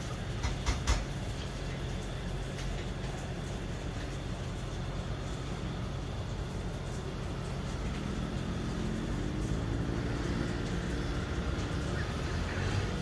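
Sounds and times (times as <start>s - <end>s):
distant city traffic hum: 0.0s - 13.0s
vehicle engine drone: 0.0s - 13.0s.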